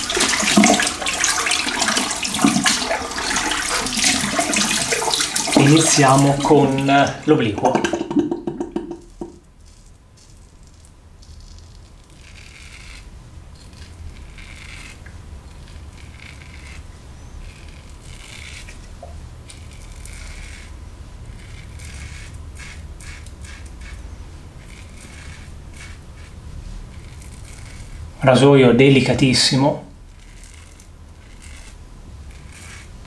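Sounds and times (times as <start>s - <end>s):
razor scraping stubble: 0.0s - 7.7s, 8.6s - 33.0s.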